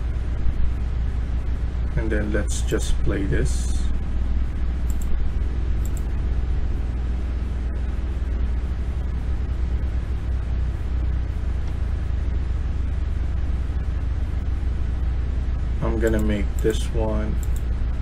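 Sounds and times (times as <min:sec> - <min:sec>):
low hum: 0:00.0 - 0:18.0
noisy hiss: 0:00.0 - 0:18.0.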